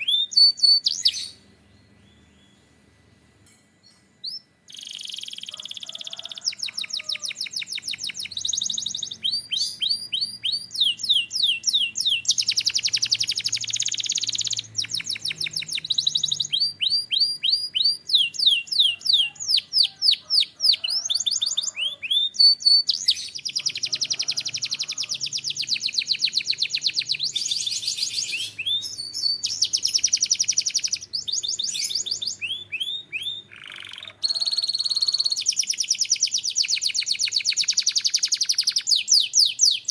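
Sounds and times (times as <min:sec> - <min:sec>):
canary singing trills: 0:00.0 - 0:02.8, 0:03.8 - 0:39.9.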